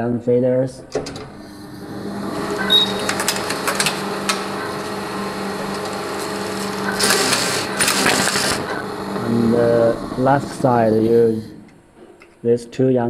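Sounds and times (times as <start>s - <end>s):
knitting machine whirring: 0.9s - 11.7s
machine rush: 1.0s - 11.7s
sharp machine clicks: 1.0s - 11.7s.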